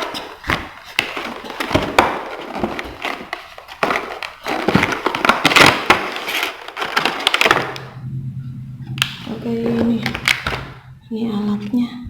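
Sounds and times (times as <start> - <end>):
packaging crackling and rustling: 0.0 - 8.0, 9.0 - 10.8.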